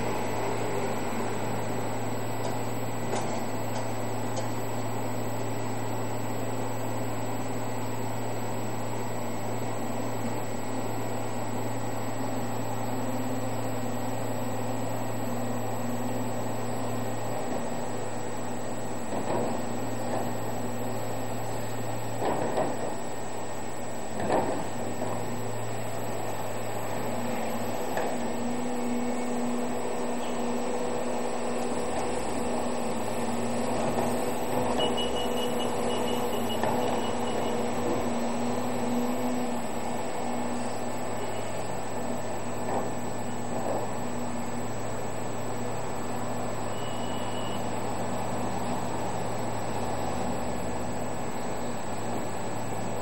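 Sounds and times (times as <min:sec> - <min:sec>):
diesel engine droning: 0:00.0 - 0:53.0.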